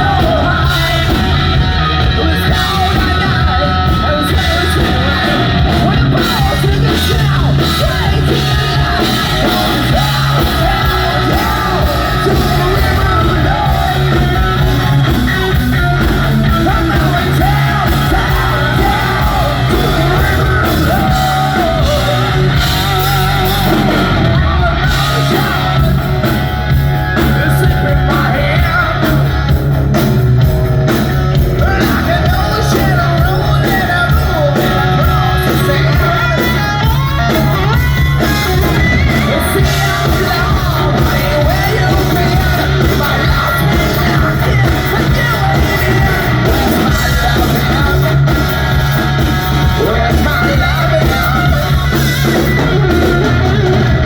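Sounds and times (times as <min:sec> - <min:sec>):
hard rock band playing live: 0:00.0 - 0:54.0.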